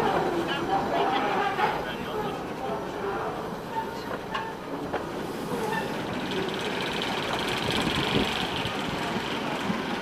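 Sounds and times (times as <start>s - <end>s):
train coaches rolling past: 0.0s - 10.0s.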